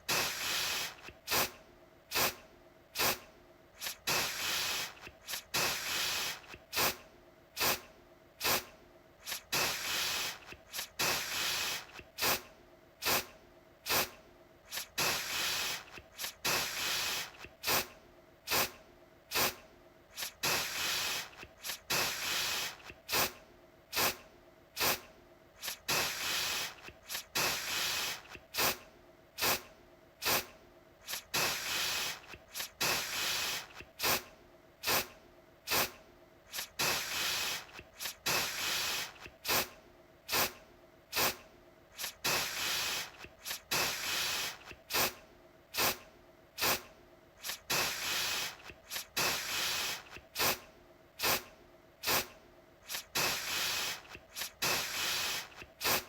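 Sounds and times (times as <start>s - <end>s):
aerosol can spraying: 0.1s - 2.4s, 3.0s - 3.2s, 3.8s - 7.0s, 7.6s - 17.9s, 18.5s - 24.2s, 24.8s - 28.8s, 29.4s - 35.1s, 35.7s - 39.7s, 40.3s - 41.4s, 42.0s - 45.2s, 45.8s - 46.0s, 46.6s - 50.6s, 51.2s - 56.0s.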